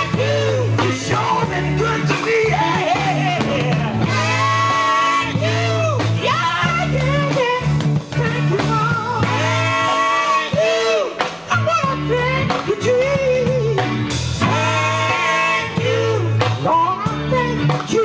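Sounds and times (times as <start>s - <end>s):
band with guitar and bass: 0.0s - 18.0s
male group singing gospel: 0.0s - 18.0s.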